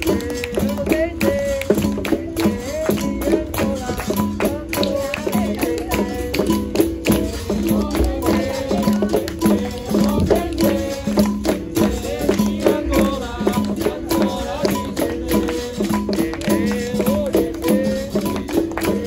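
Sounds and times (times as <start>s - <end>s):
pandeiro and percussion strokes: 0.0s - 19.0s
voices singing: 0.0s - 19.0s.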